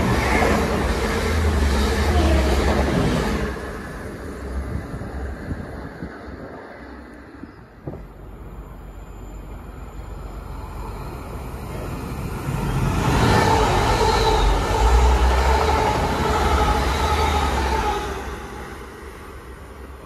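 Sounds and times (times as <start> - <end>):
diesel train passing: 0.0 - 20.0
train whine: 0.0 - 20.0.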